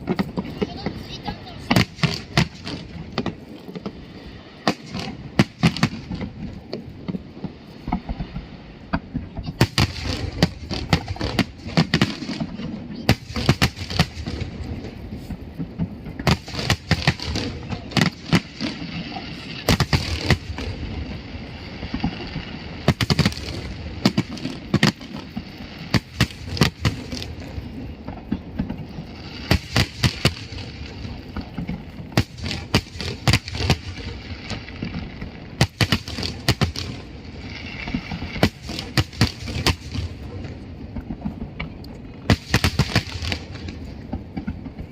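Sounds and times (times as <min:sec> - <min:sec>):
fireworks bangs and cracks: 0:00.0 - 0:44.9.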